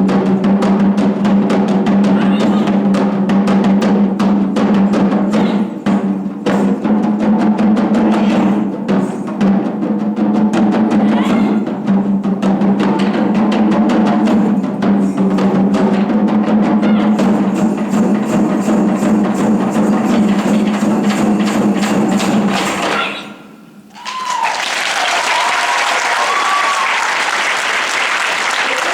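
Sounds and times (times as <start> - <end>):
taiko drum ensemble playing: 0.0 - 24.4.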